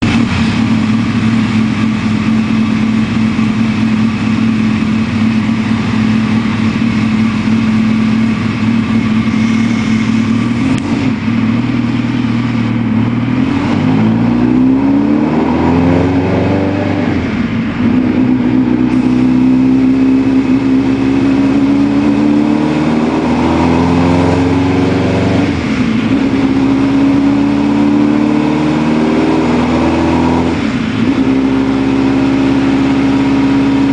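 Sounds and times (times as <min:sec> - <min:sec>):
engine revving on a dyno: 0:00.0 - 0:33.9.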